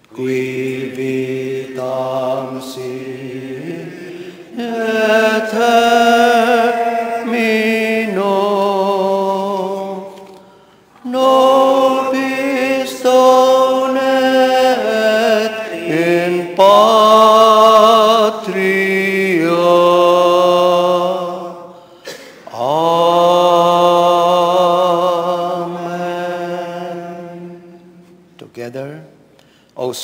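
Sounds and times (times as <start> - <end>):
voices singing a hymn: 0.0 - 28.4.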